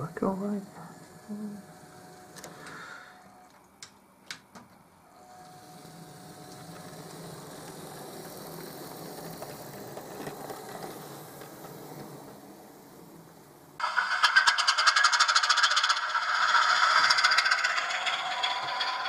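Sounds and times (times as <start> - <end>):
small electric motor whirring: 0.0 - 3.4, 5.1 - 19.0.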